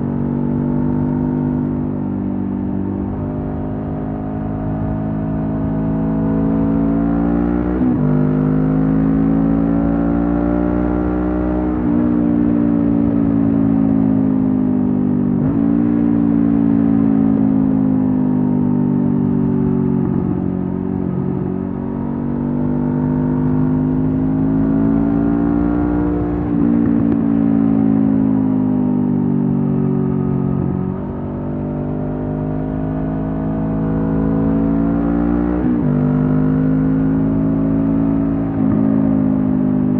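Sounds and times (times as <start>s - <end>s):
motorcycle engine revving: 2.6s - 39.9s.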